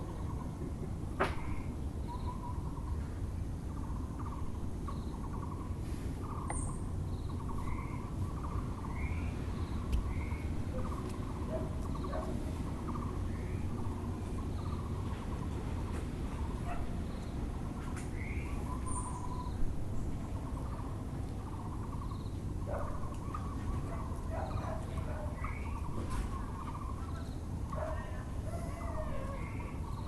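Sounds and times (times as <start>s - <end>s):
low city rumble: 0.0s - 30.0s
bird chirps: 1.3s - 3.0s, 3.8s - 15.6s, 17.1s - 30.0s.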